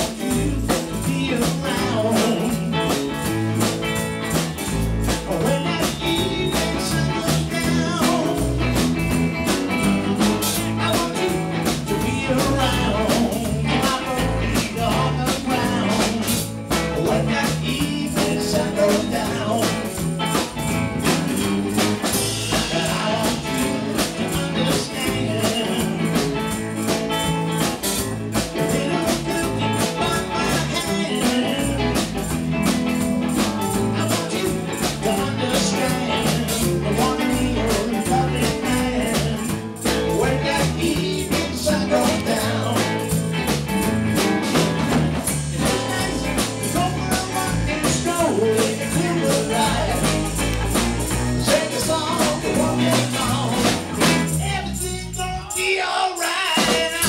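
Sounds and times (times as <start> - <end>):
blues-rock band playing: 0.0 - 55.7, 56.4 - 57.0.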